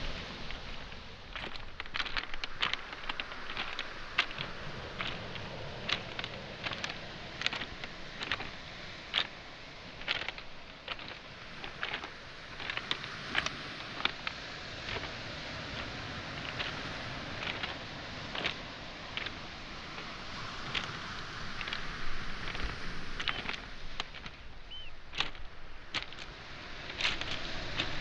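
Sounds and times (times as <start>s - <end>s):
footsteps on pebbles: 0.0s - 28.0s
sea washing: 0.0s - 28.0s.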